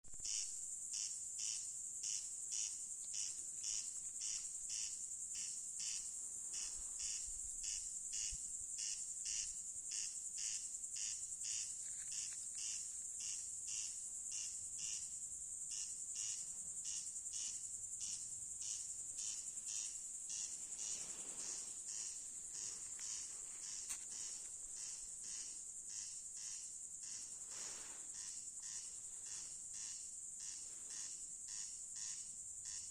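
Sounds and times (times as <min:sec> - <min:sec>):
high-pitched hiss: 0:02.2 - 0:32.9.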